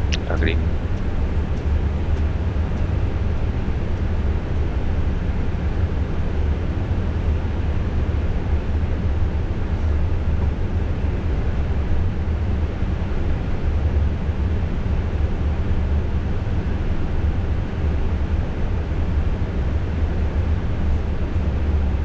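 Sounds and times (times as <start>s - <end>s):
low rumble of airflow and engines: 0.0s - 22.0s.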